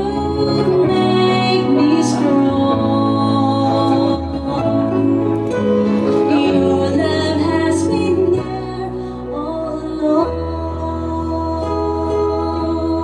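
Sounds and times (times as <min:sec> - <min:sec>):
slow gentle music with held chords: 0:00.0 - 0:13.0.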